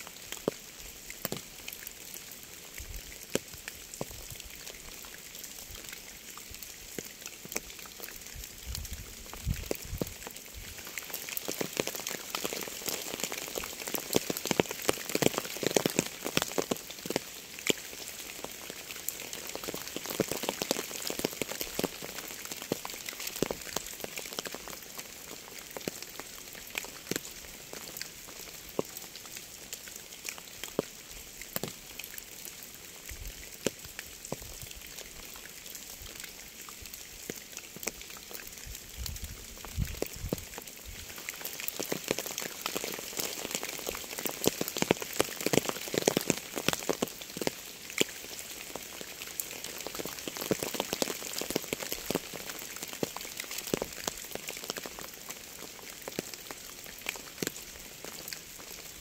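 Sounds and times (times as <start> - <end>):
rain drops ticking on surface: 0.0 - 59.0.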